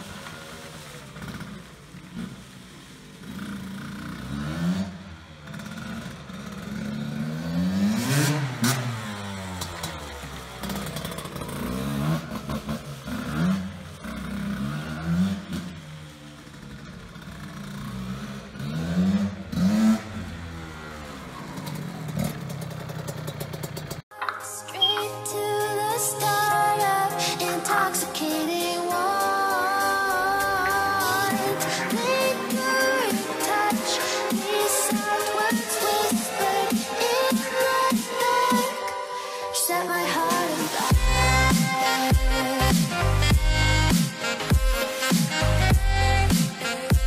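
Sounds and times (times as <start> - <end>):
two-stroke motorcycle engine revving: 0.0 - 24.0, 26.0 - 39.1, 40.1 - 47.0.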